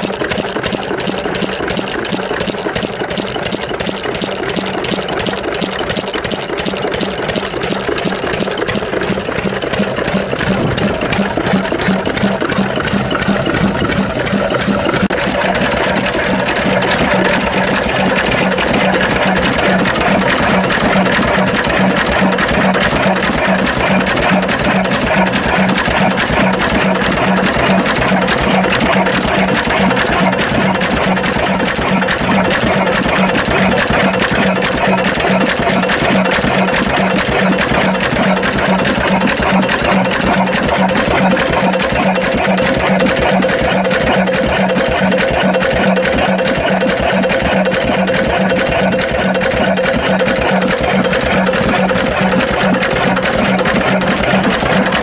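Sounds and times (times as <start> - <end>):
stationary engine clattering: 0.0 - 55.0.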